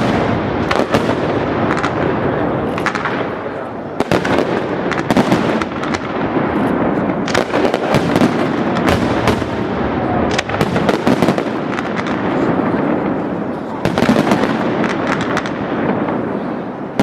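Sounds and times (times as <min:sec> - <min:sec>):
fireworks bangs and cracks: 0:00.0 - 0:17.0.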